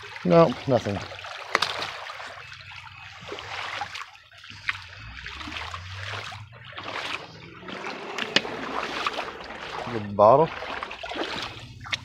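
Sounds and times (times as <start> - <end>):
creek water trickling over rocks: 0.0 - 12.0.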